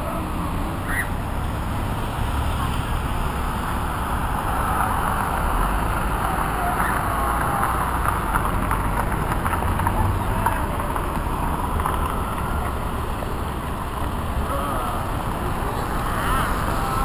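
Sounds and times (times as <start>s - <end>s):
faint crowd voices: 0.0s - 17.0s
van driving past: 0.0s - 17.0s.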